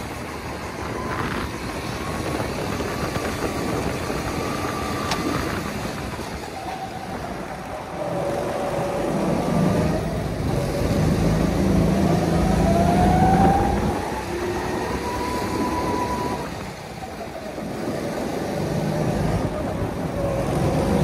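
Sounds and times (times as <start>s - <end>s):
go-kart motor whining: 0.0s - 21.0s.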